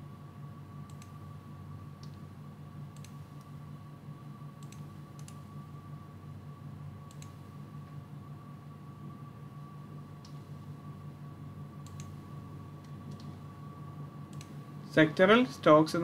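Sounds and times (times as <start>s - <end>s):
faint high whine: 0.0s - 16.0s
low electrical hum: 0.0s - 16.0s.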